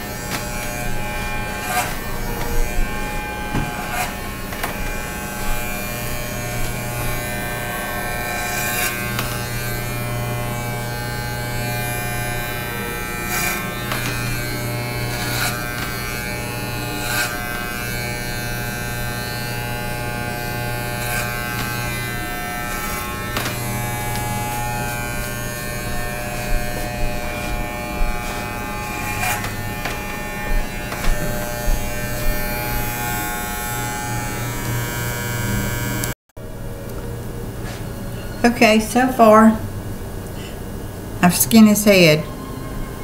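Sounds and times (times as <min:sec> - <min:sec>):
electric hair clippers buzzing: 0:00.0 - 0:36.2.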